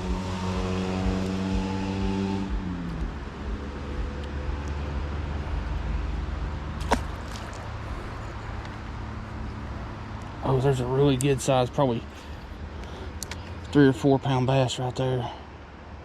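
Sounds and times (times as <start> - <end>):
engine running: 0.0 - 13.7.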